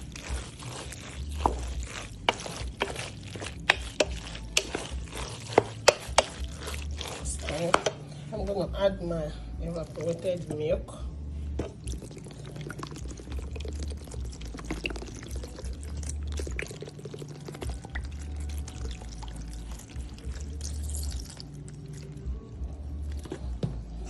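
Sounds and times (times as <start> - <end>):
milk pouring and splashing: 0.0 - 7.7, 11.6 - 23.5.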